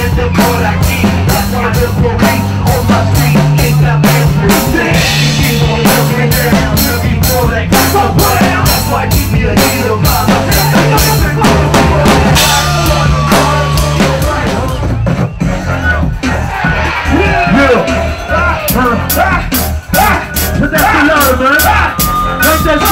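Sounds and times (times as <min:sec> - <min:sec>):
bass line: 0:00.0 - 0:22.9
drum kit beat: 0:00.0 - 0:22.9.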